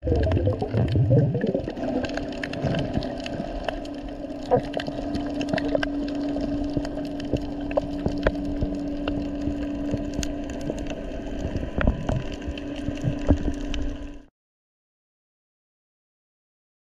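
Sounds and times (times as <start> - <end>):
steady underwater hum: 0.0 - 14.3
underwater crackle of clicks: 0.1 - 14.3.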